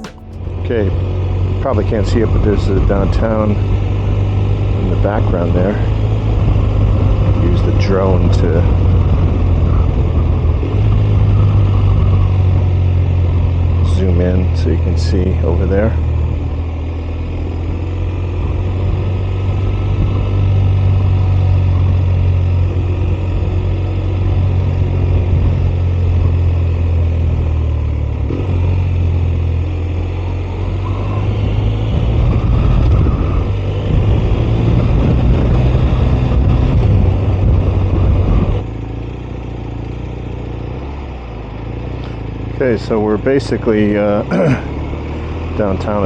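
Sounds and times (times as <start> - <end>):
motorcycle engine drone: 0.0 - 46.0.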